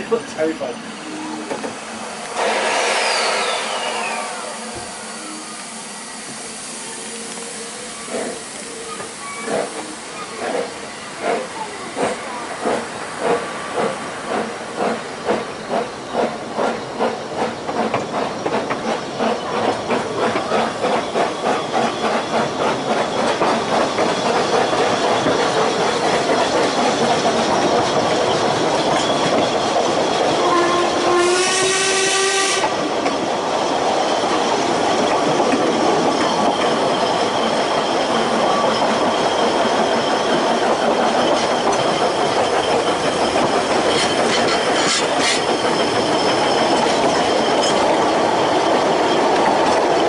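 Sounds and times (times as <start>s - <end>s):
steam hissing: 0.0s - 50.0s
steam locomotive exhaust beats: 0.0s - 50.0s.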